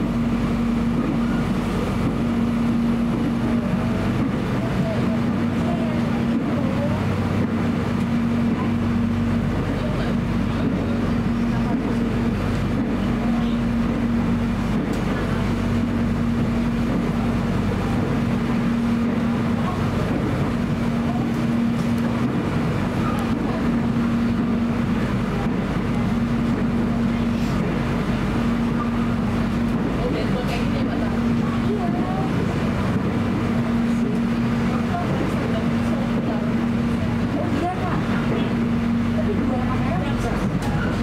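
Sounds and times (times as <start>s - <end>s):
constant low hum: 0.0s - 41.0s
wheels rumbling on track: 0.0s - 41.0s.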